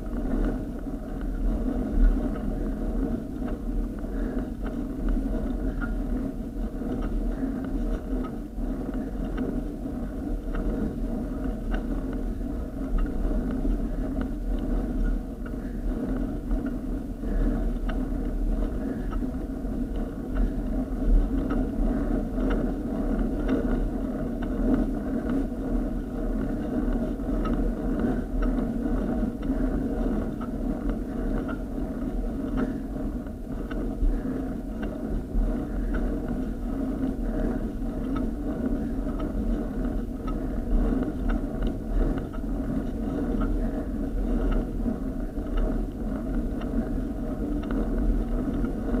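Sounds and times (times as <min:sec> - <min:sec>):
bicycle road vibration rumble: 0:00.0 - 0:49.0.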